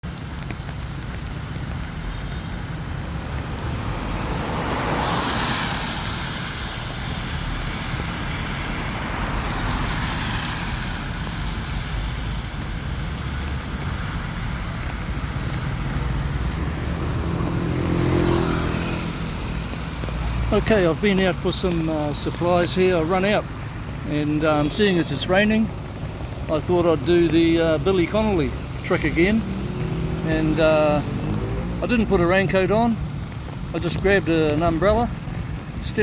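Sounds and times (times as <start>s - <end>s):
road traffic hiss: 0.0s - 36.0s.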